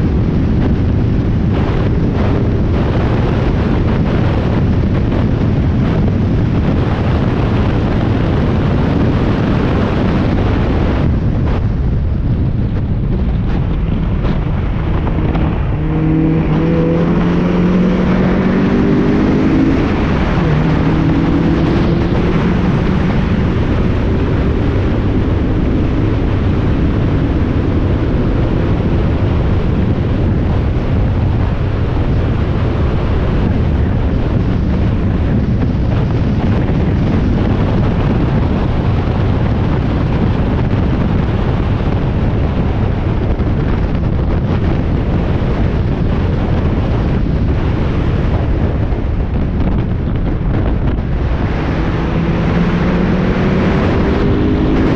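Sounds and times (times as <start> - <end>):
race car engine: 0.0 - 54.9
wind rush on microphone: 0.0 - 54.9.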